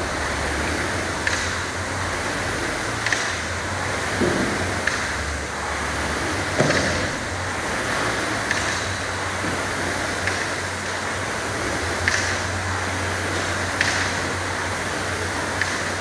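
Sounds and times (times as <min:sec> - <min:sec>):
rowing machine fan whooshing: 0:00.0 - 0:16.0
rowing machine stroke knock: 0:00.0 - 0:16.0.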